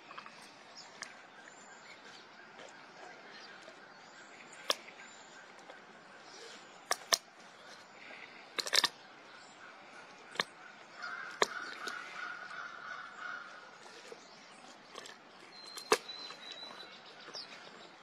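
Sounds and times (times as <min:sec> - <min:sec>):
tiger crunching on a bone: 0:00.0 - 0:18.0.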